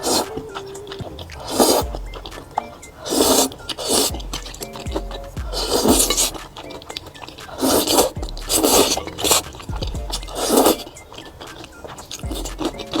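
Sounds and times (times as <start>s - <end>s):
noodles being slurped: 0.0s - 13.0s
person chewing: 0.0s - 13.0s.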